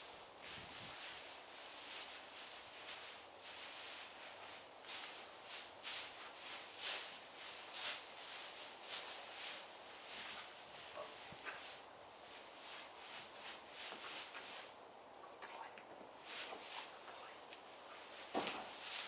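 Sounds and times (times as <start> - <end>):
horse hooves shuffling through straw: 0.0 - 15.2, 16.0 - 19.0.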